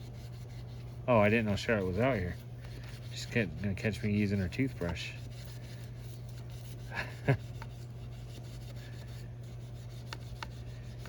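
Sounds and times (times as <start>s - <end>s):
steady low hum: 0.0s - 11.0s
toothbrush scrubbing fan: 0.0s - 11.0s.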